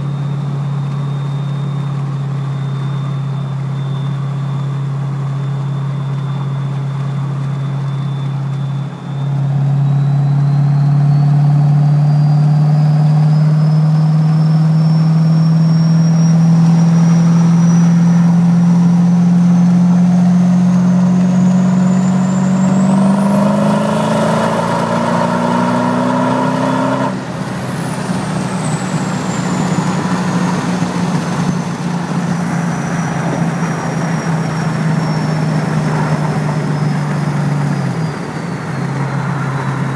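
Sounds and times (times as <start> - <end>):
diesel engine drone: 0.0 - 39.9
turbo whistle: 0.0 - 39.9.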